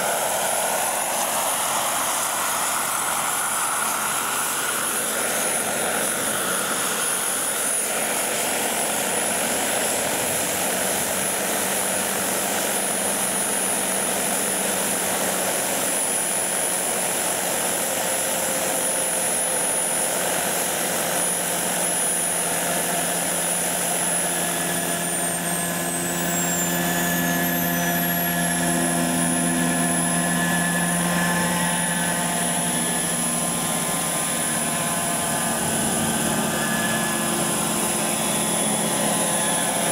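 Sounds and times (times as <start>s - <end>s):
high motor whine: 0.0s - 39.9s
model helicopter rotor hum: 0.0s - 39.9s.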